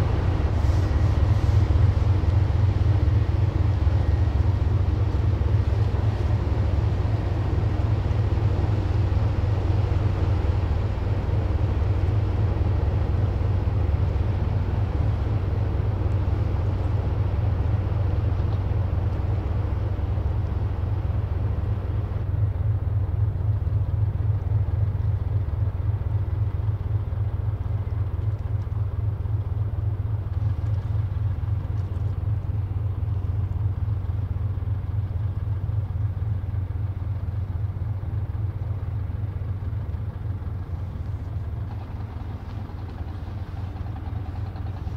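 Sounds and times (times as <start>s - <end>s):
ship engines droning: 0.0s - 44.9s.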